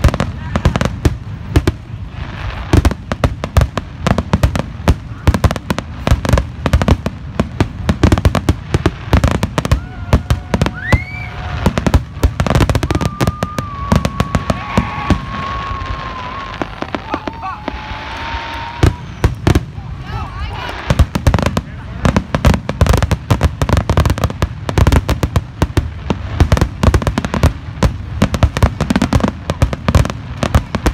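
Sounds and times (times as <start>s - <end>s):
fireworks bangs and pops: 0.0s - 30.9s.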